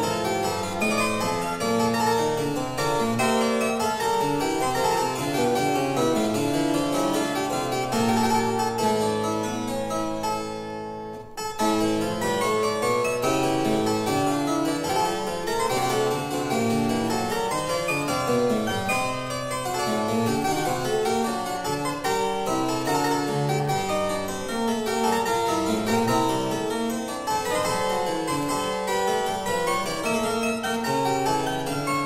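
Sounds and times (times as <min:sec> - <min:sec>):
harpsichord music: 0:00.0 - 0:32.0.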